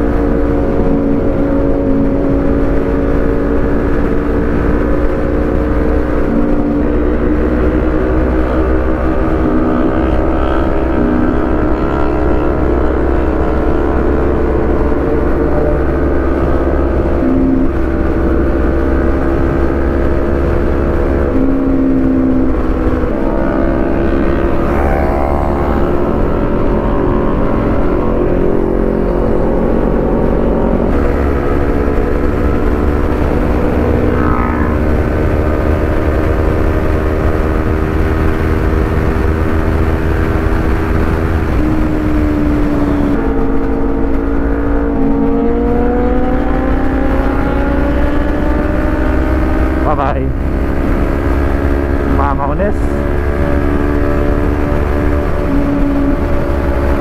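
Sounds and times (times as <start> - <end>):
motorcycle engine cruising: 0.0 - 57.0
wind rumbling on microphone: 0.0 - 57.0.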